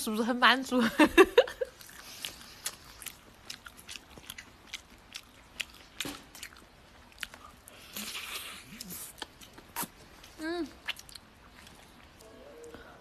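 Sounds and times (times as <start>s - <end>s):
person chewing: 1.6s - 12.2s.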